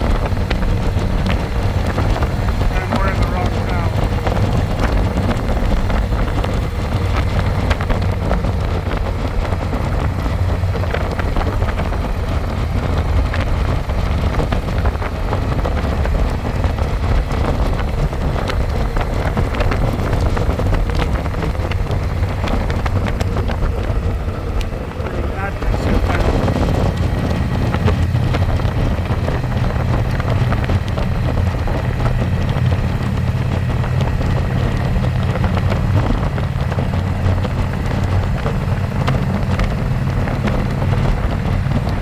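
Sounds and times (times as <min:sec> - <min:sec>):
motorcycle engine running: 0:00.0 - 0:42.0
wind noise on microphone: 0:00.0 - 0:42.0.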